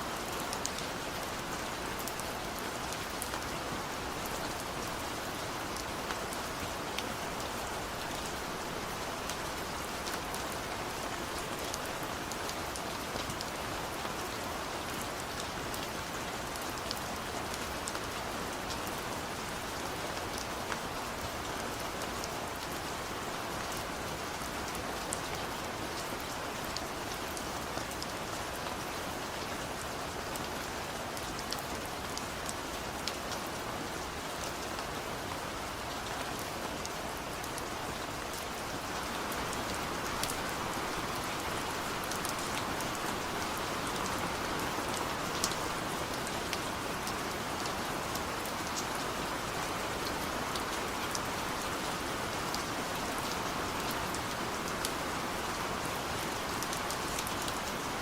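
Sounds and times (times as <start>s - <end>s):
heavy rain in a forest: 0.0s - 58.0s.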